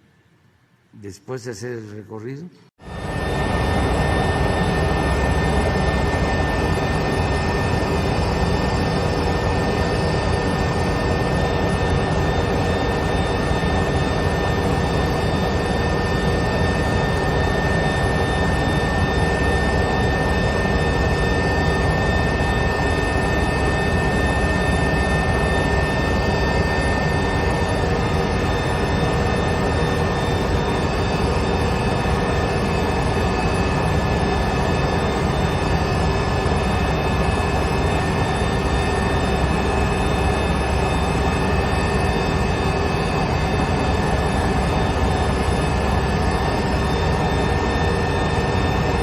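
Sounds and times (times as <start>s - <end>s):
helicopter engine and rotor: 2.8s - 49.0s.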